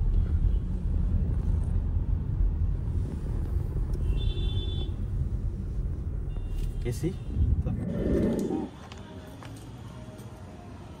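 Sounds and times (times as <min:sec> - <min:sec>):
road rumble inside car: 0:00.0 - 0:09.0.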